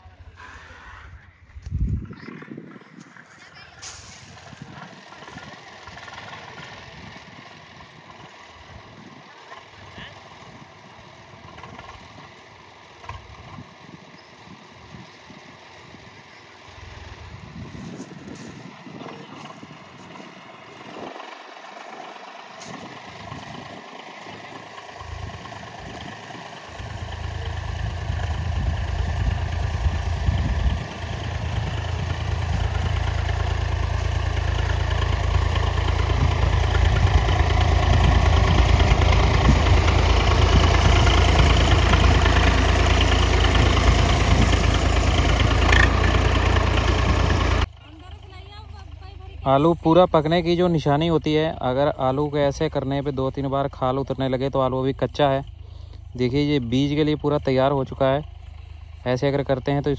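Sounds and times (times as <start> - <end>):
tractor engine rumbling: 0.0 - 59.9.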